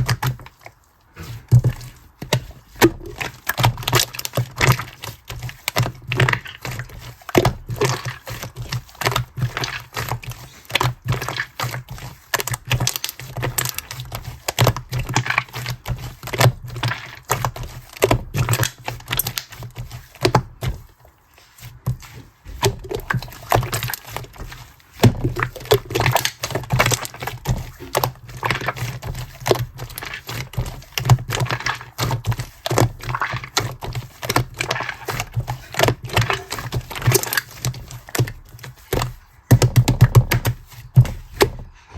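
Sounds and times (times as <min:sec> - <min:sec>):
slime clicking and crackling: 0:00.0 - 0:20.9, 0:21.6 - 0:41.5.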